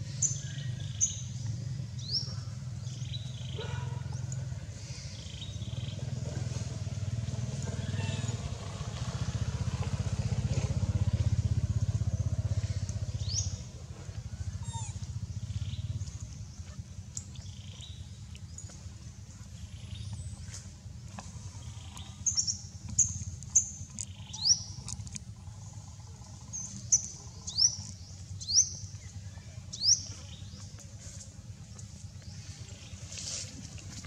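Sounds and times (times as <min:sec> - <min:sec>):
low rumble: 0:04.2 - 0:34.0.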